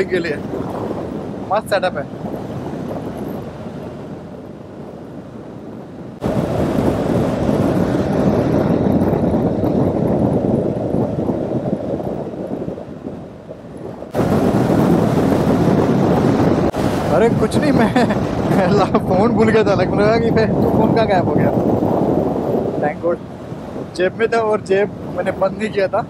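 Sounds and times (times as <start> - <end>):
wind and road noise roaring: 0.0 - 26.0.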